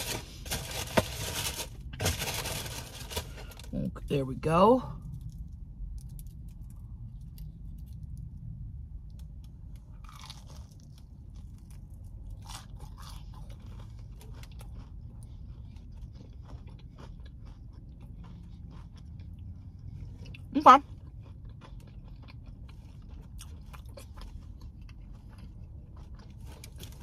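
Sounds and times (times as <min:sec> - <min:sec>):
person chewing crispy food: 0:00.0 - 0:03.8, 0:04.9 - 0:27.0
steady low hum: 0:00.0 - 0:27.0.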